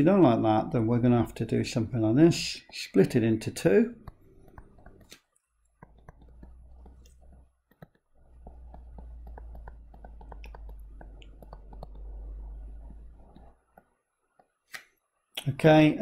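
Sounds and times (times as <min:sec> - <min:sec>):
stylus writing on tablet screen: 0:00.0 - 0:14.7.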